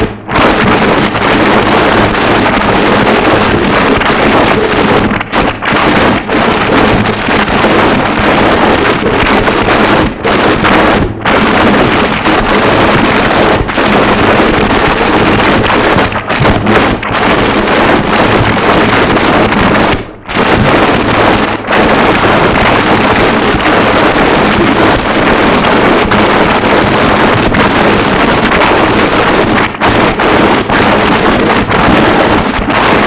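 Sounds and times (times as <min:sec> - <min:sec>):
harsh electronic noise: 0:00.0 - 0:33.0.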